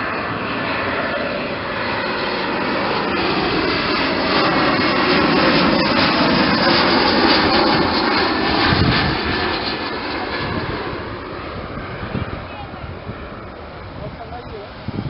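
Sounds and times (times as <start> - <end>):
jet airliner flying low past: 0.0 - 15.0.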